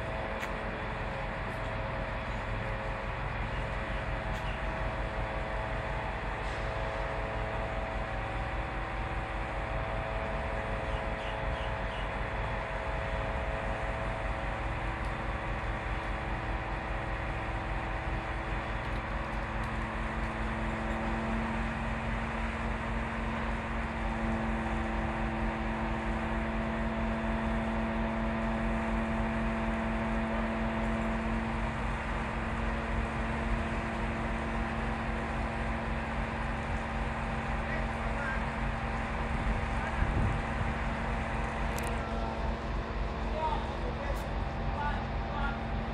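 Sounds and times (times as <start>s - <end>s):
truck engine and hydraulic pump: 0.0s - 45.9s.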